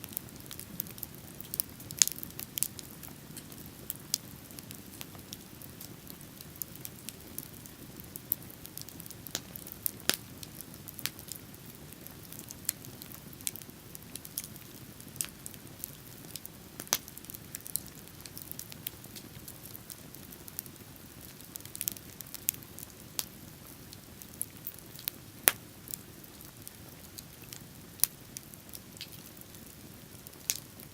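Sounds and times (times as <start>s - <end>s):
bonfire crackling: 0.0s - 30.9s.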